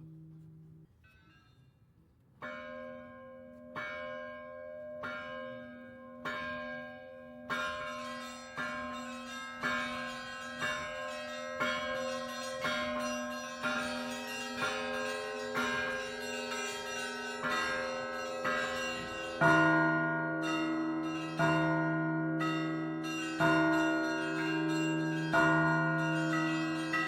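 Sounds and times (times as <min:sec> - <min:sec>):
church bells ringing: 0:00.0 - 0:01.7, 0:02.4 - 0:27.0.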